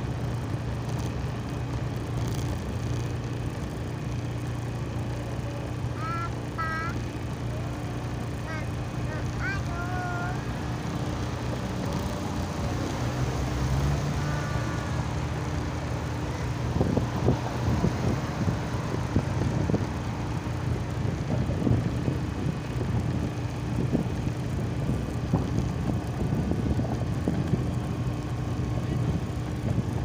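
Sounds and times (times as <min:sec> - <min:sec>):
constant hum: 0:00.0 - 0:30.0
road traffic rumble: 0:00.0 - 0:30.0.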